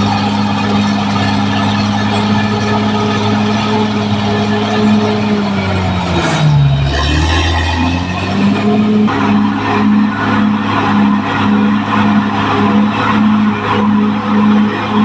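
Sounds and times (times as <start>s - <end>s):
bulldozer diesel drone: 0.0s - 15.0s
bulldozer tracks clattering: 0.0s - 15.0s.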